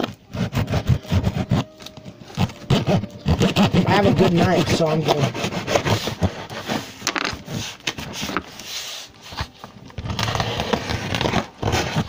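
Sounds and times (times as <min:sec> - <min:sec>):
knife cutting tape and cardboard: 0:00.0 - 0:12.0.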